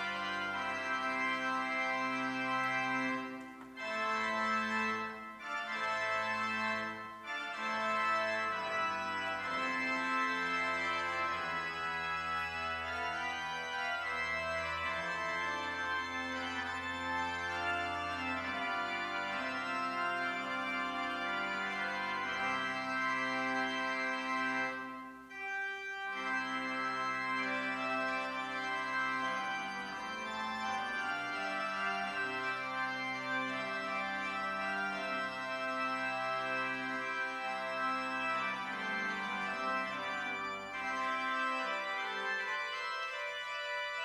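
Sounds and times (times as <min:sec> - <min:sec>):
church organ chords: 0:00.0 - 0:44.0.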